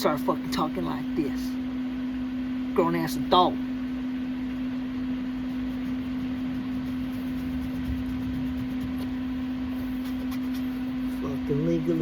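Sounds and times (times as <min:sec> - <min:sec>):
low background rumble: 0:00.0 - 0:12.0
steady machine hum: 0:00.0 - 0:12.0.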